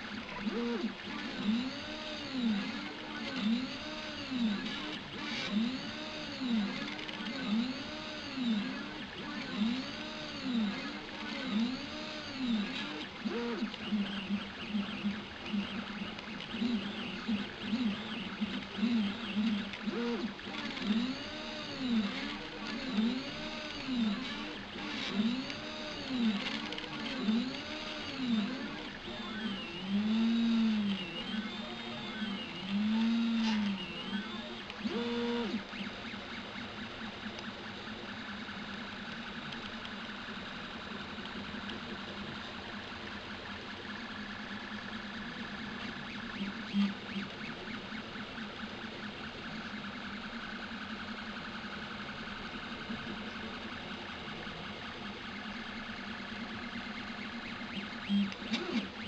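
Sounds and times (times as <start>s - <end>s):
stepper motors whining: 0.0s - 59.0s.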